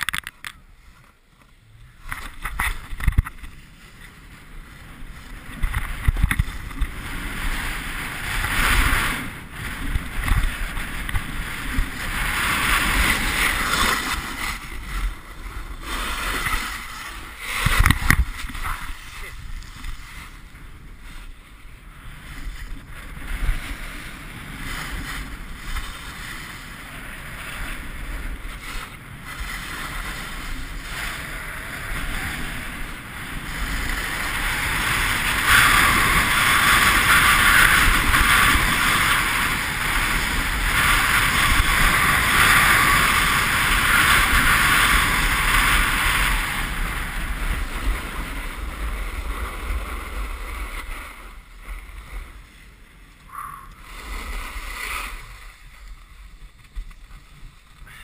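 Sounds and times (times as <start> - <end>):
skis scraping icy snow: 0.8 - 58.0
wind on microphone: 1.7 - 58.0.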